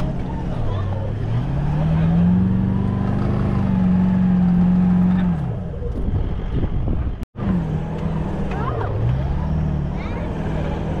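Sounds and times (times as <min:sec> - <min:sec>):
engine revving: 0:00.0 - 0:06.8, 0:07.4 - 0:11.0.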